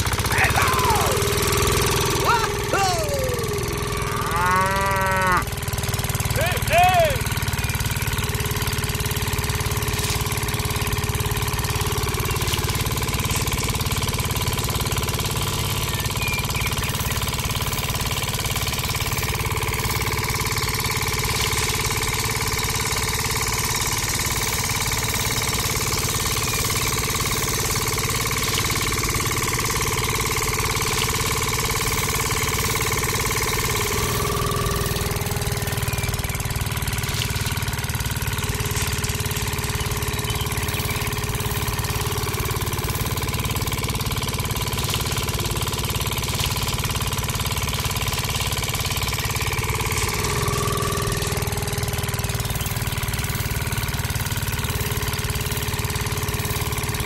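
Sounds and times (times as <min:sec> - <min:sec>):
small engine rumbling: 0:00.0 - 0:57.0.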